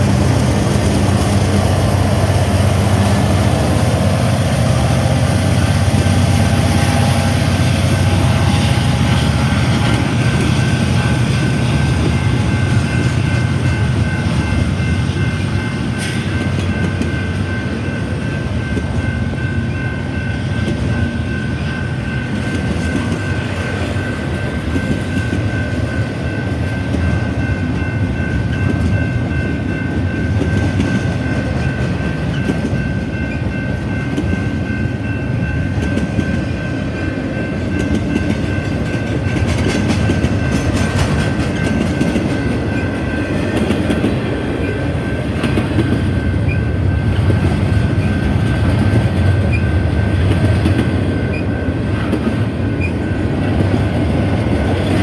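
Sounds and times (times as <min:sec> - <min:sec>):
crossing warning bell: 0:00.0 - 0:55.0
diesel locomotive rumble: 0:00.0 - 0:55.0
steel wheels rumbling on rail: 0:00.0 - 0:55.0.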